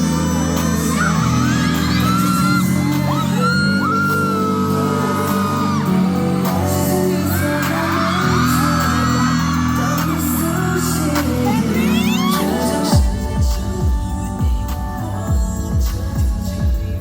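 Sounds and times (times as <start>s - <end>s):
fans screaming and cheering: 0.0s - 17.0s
person singing: 0.0s - 17.0s
pop music through sound system: 0.0s - 17.0s.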